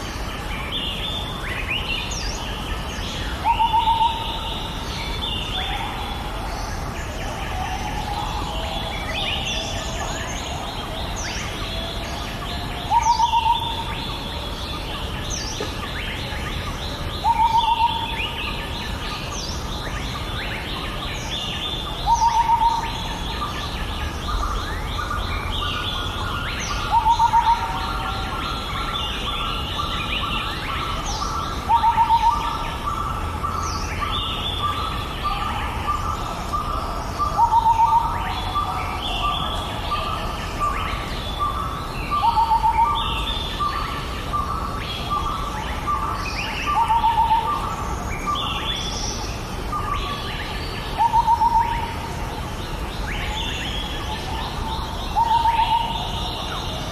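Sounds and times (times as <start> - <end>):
many birds chirping: 0.0 - 56.9.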